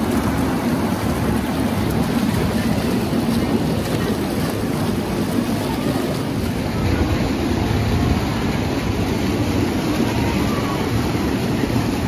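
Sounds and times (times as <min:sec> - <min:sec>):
hot tub jets bubbling water: 0:00.0 - 0:12.0.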